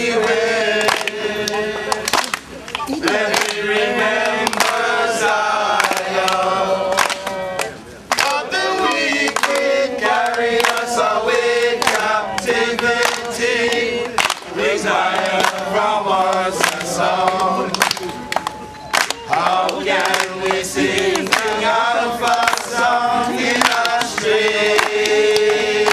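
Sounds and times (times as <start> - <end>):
group singing in unison: 0.0 - 18.1, 19.1 - 25.9.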